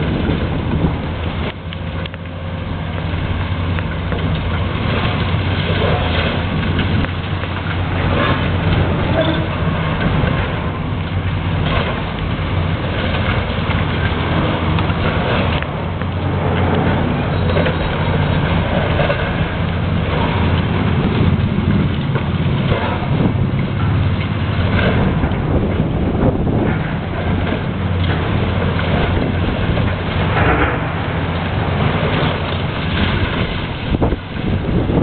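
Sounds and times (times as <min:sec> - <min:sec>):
demolition machine engine running: 0:00.0 - 0:35.0.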